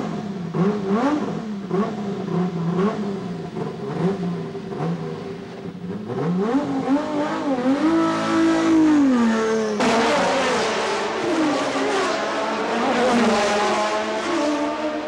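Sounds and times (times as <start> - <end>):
racing car engine revving: 0.0 - 15.0.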